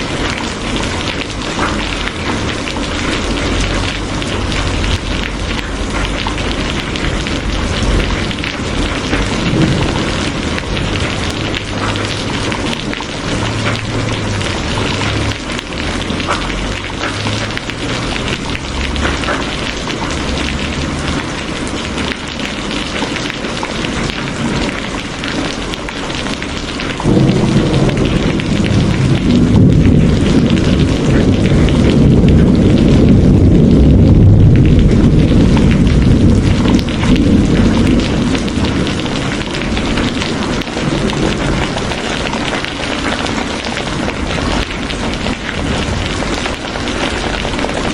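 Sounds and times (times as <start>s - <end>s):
steady rain: 0.0s - 47.9s
thunder rumbling: 0.0s - 47.9s.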